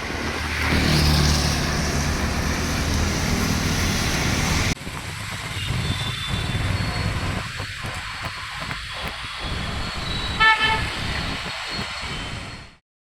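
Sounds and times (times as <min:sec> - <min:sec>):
steady rushing hiss: 0:02.2 - 0:12.6.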